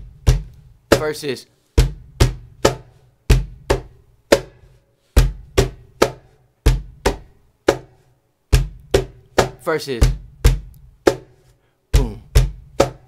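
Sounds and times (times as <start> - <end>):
cajon bass strokes: 0.0 - 13.0.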